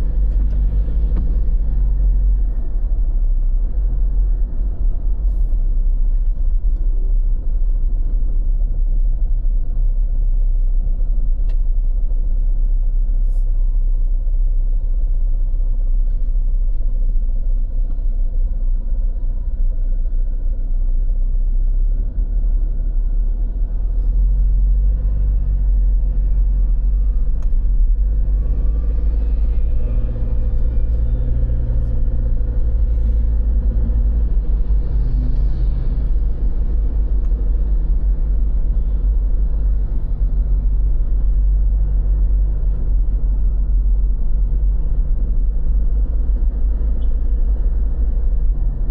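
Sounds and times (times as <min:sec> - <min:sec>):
engine hum: 0:00.0 - 0:48.9
vehicle rumble in motion: 0:00.0 - 0:48.9.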